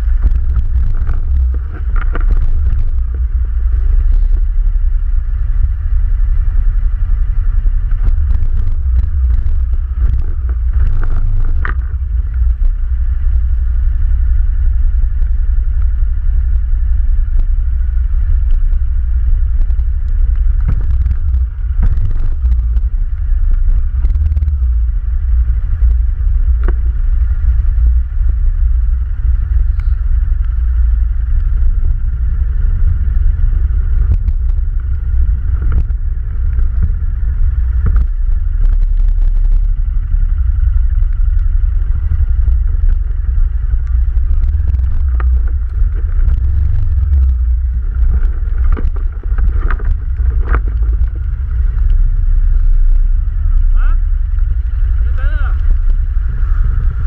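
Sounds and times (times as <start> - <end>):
atv engine rumbling: 0.0 - 57.0.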